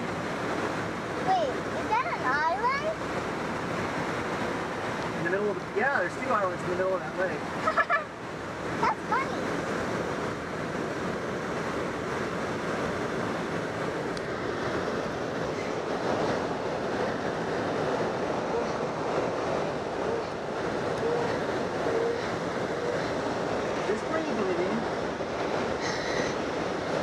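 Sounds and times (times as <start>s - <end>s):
airflow rushing in cockpit: 0.0s - 27.0s.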